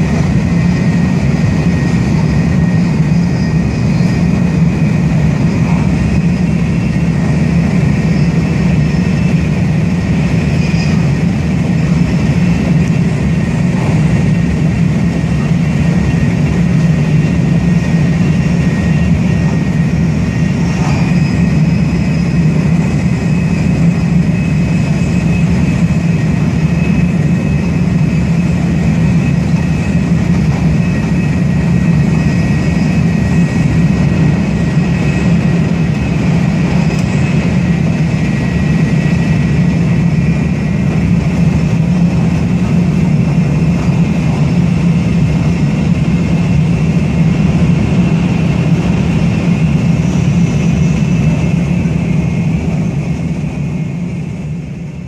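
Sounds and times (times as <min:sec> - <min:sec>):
faint high whine: 0:00.0 - 0:55.0
train rumble: 0:00.0 - 0:55.0.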